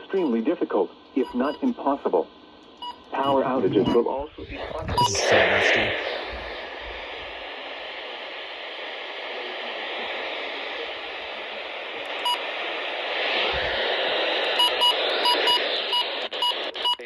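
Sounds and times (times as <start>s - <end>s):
radio static hiss: 3.1s - 17.0s.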